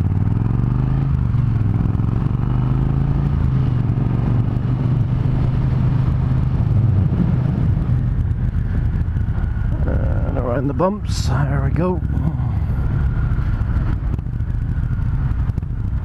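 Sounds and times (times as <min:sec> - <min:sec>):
motorcycle engine under way: 0:00.0 - 0:16.0.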